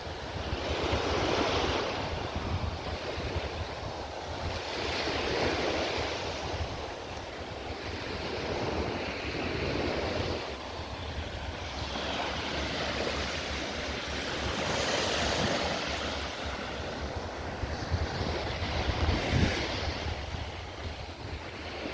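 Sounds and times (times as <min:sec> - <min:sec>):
waves breaking on beach: 0:00.0 - 0:21.9
wind buffeting microphone: 0:00.0 - 0:21.9.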